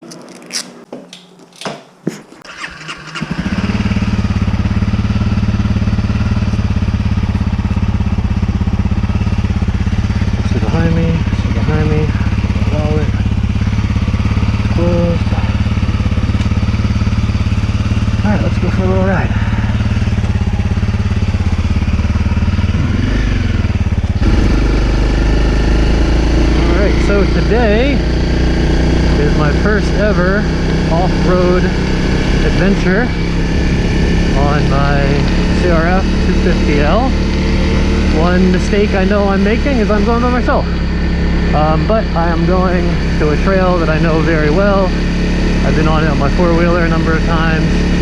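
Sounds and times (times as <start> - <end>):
motorcycle engine idling: 2.4 - 48.0.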